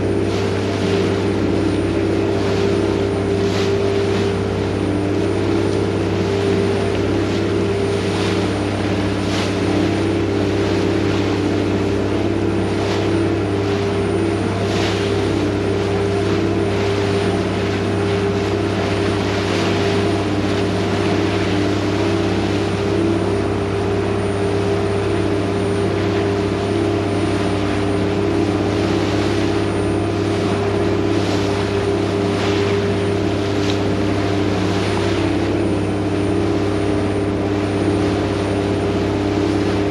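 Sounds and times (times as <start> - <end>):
boat diesel engine droning: 0.0 - 39.9
faint water swishes: 0.0 - 39.9.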